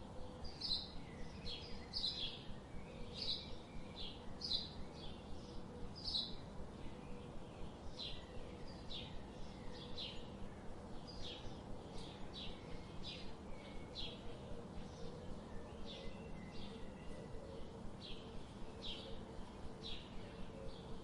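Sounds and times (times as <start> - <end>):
faint steady hum: 0.0 - 21.0
songbird chirping: 0.0 - 21.0.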